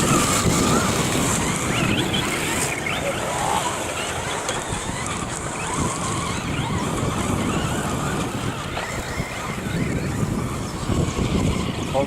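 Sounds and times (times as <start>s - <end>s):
electric motors whining: 0.0s - 12.0s
steady rushing noise: 0.0s - 12.0s.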